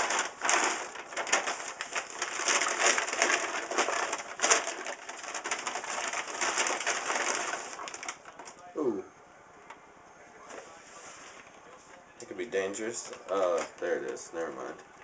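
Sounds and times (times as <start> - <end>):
plastic envelope crinkling: 0.0 - 8.6, 11.3 - 15.0.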